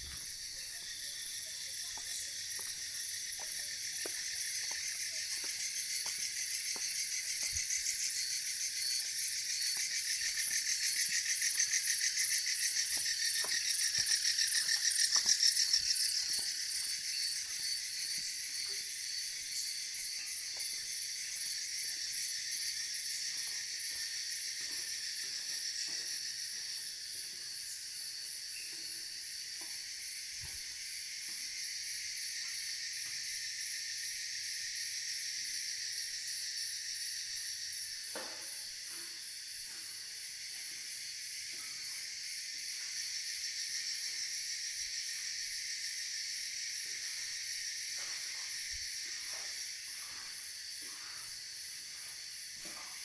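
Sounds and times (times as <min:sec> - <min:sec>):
insects buzzing with pulsing trill: 0:00.0 - 0:53.0.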